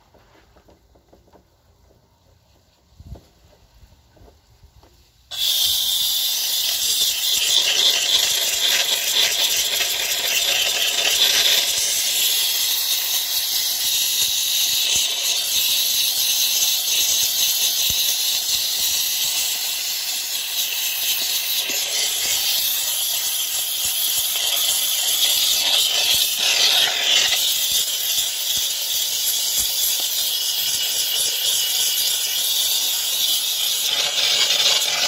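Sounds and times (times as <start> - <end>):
steam cleaner hissing: 5.3 - 35.0.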